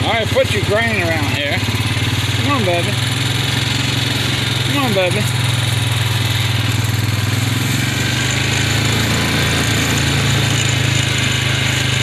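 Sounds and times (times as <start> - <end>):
atv engine running steadily: 0.0 - 12.0.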